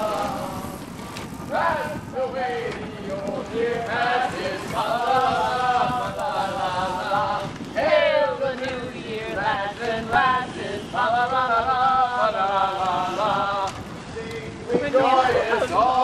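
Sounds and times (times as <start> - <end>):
group singing unaccompanied: 0.0 - 0.8, 1.5 - 16.0.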